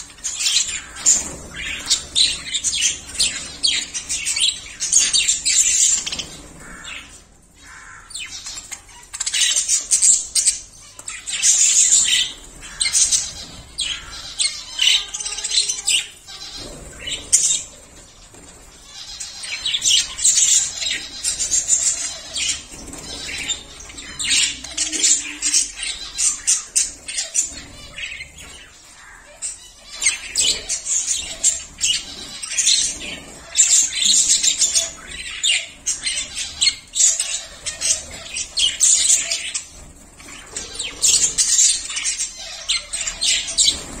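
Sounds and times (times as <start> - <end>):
budgerigars chirping: 0.0 - 17.9, 18.6 - 44.0.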